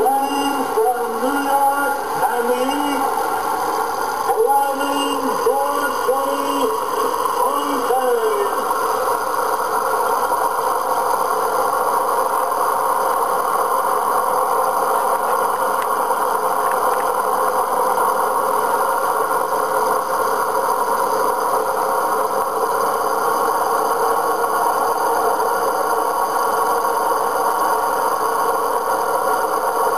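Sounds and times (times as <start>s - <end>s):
aircraft engines droning: 0.0s - 29.9s.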